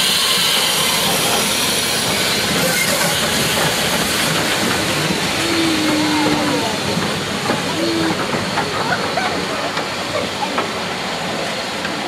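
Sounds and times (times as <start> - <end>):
carriages rolling on rails: 0.0 - 12.0
steam locomotive hissing: 0.0 - 12.0.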